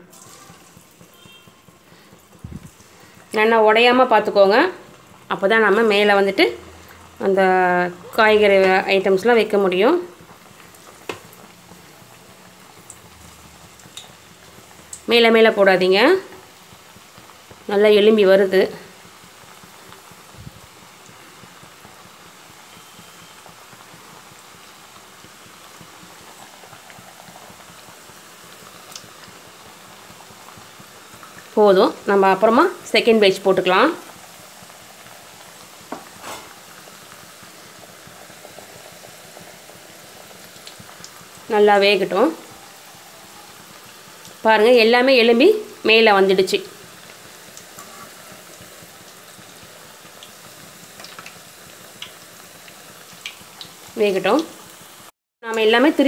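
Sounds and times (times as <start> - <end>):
oil sizzling while deep-frying: 0.0 - 56.0.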